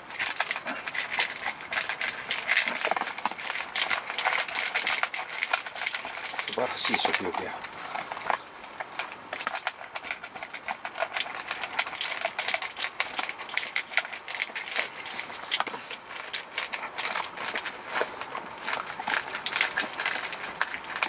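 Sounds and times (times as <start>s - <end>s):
dogs crunching dry food: 0.0s - 21.0s.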